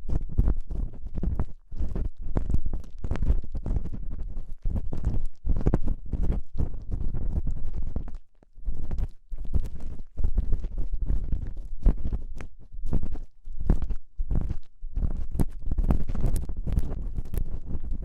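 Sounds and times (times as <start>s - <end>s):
ear-cleaning tool scraping microphone: 0.0s - 18.0s.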